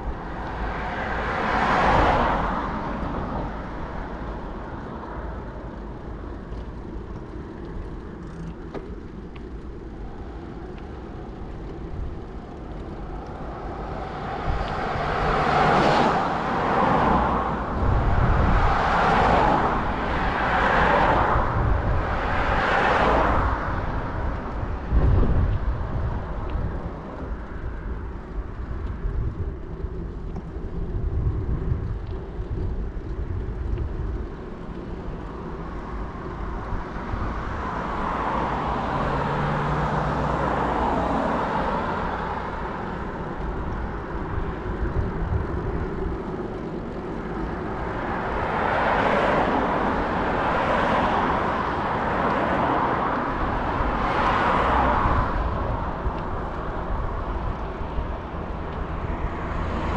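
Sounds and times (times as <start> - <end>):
low traffic rumble: 0.0 - 59.9
vehicles passing by: 0.0 - 59.9.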